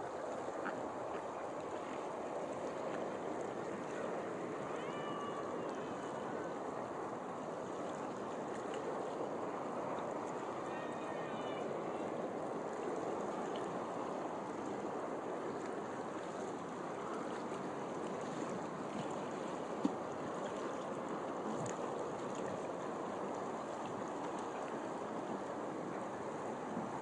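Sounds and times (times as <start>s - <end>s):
open water washing: 0.0s - 27.0s.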